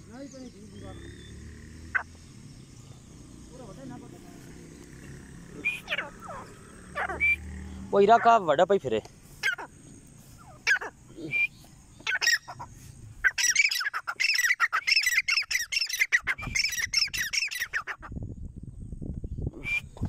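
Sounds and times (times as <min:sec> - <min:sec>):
francolin calling: 0:00.0 - 0:18.2.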